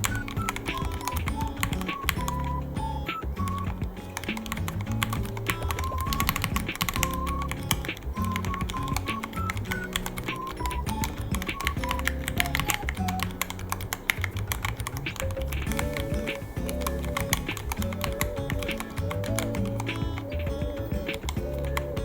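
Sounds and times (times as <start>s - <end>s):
mechanical keyboard typing: 0.0s - 22.0s.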